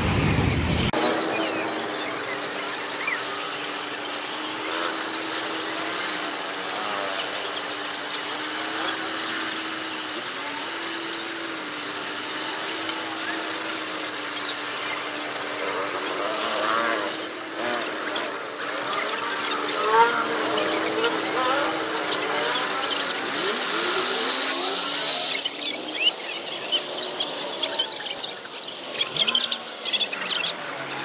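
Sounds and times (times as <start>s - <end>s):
traffic engine hum: 0.0s - 31.0s.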